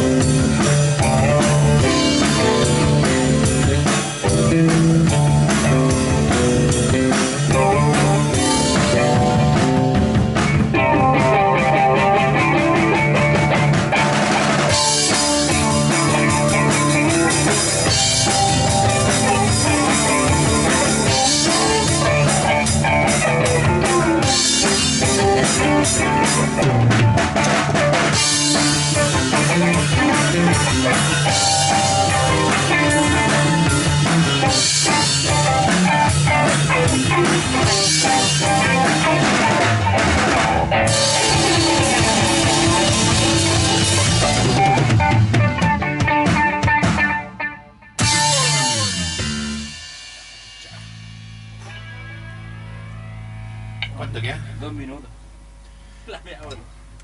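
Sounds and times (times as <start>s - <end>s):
rock band playing live: 0.0s - 55.0s
bass drum and rimshots: 0.0s - 57.0s
distorted guitar: 0.0s - 57.0s.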